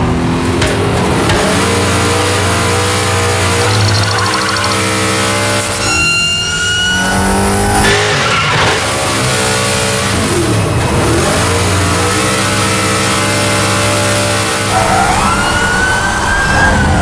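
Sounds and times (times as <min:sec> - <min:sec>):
car engines revving hard: 0:00.0 - 0:05.9, 0:06.9 - 0:17.0.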